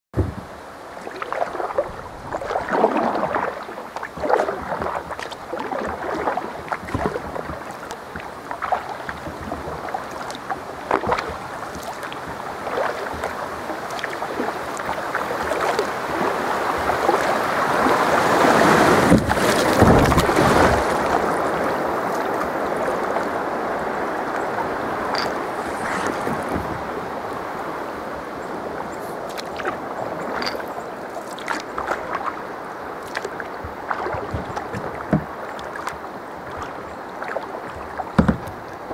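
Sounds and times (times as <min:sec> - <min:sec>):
water rushing against hull: 0:00.1 - 0:38.9
kayak paddle strokes splashing: 0:00.2 - 0:38.9.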